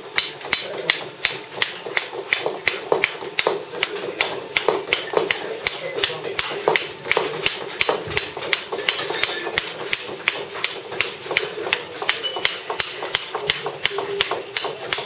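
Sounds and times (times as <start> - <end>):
mallet tapping chisel on stone: 0.1 - 15.0.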